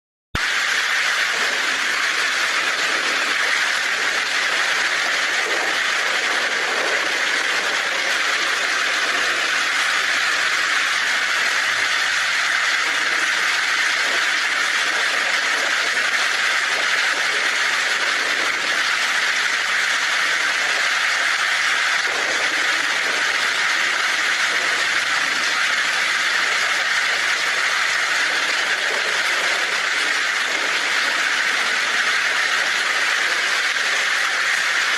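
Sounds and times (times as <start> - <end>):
torrential rain on a tin roof: 0.4 - 34.9.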